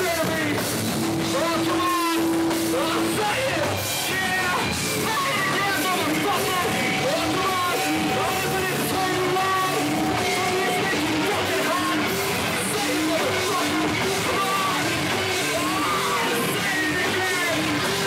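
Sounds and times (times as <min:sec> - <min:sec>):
bass guitar: 0:00.0 - 0:18.0
distorted electric guitars: 0:00.0 - 0:18.0
drums: 0:00.0 - 0:18.0
shouted vocals: 0:01.2 - 0:18.0.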